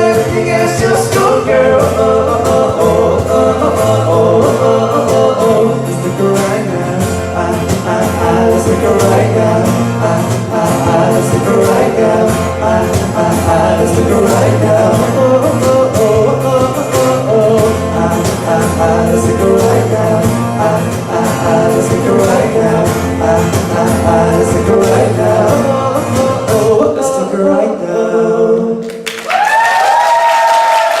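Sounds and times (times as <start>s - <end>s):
cajon beat: 0.0s - 26.8s
acoustic band playing pop song: 0.0s - 31.0s
vocal harmonies: 0.0s - 31.0s.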